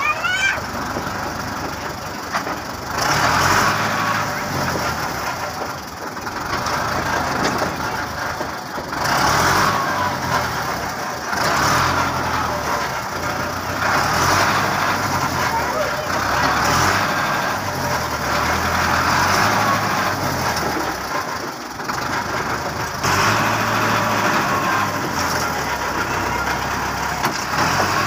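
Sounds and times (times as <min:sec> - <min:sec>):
tractor diesel engine revving: 0:00.0 - 0:28.0.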